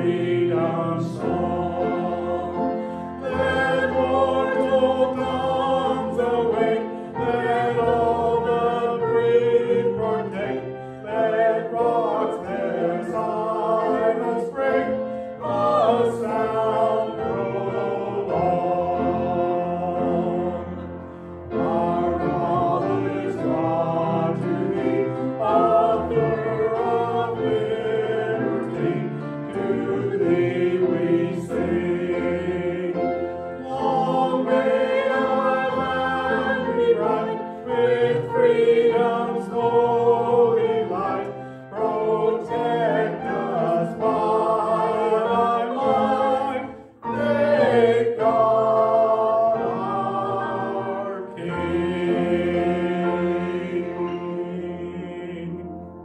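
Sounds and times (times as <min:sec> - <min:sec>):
choir singing a sacred song: 0:00.0 - 0:56.0
grand piano: 0:00.0 - 0:56.0.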